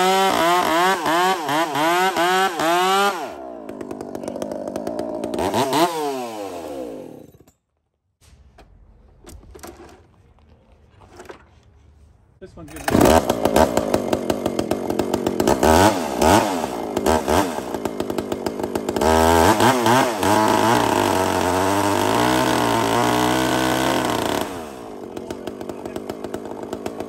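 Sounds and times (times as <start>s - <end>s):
chainsaw revving: 0.0s - 7.5s, 12.7s - 27.0s.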